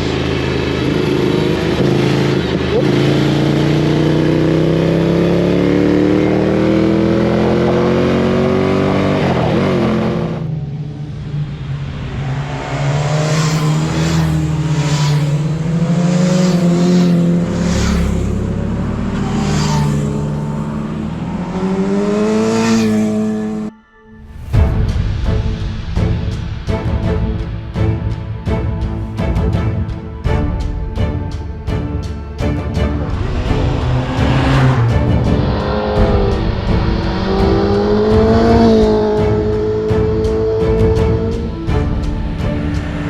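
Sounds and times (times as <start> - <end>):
motorcycle engine revving: 0.0 - 23.7, 29.8 - 43.0.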